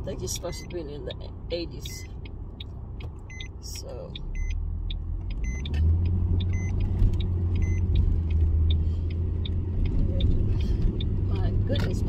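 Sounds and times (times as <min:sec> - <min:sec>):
car engine and road rumble: 0:00.0 - 0:12.0
light ticking: 0:00.1 - 0:12.0.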